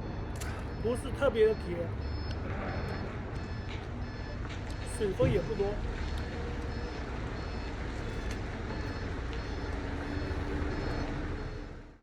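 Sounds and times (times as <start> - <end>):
truck engines rumbling: 0.0 - 12.0
truck reversing beeper: 0.0 - 12.0.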